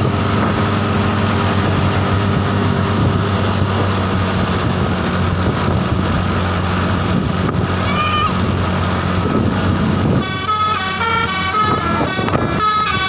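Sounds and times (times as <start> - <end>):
bus engine droning: 0.0 - 13.0
road noise: 0.0 - 13.0.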